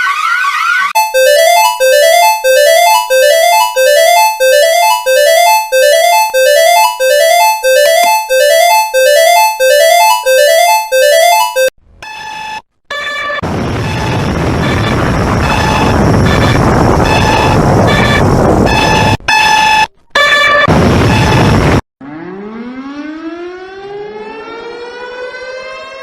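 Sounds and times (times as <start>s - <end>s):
rising electronic alarm tone: 0.0s - 26.0s.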